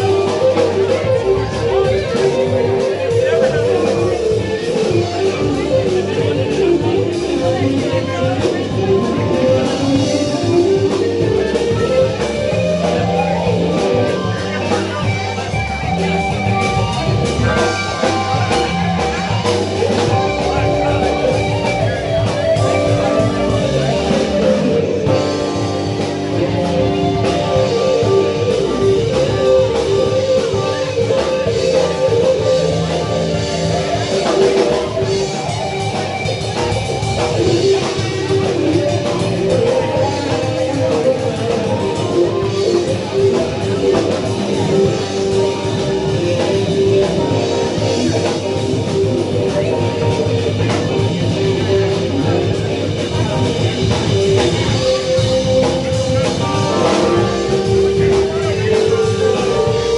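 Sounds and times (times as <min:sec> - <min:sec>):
electric guitar lines: 0:00.0 - 0:59.9
rock band playing: 0:00.0 - 0:59.9.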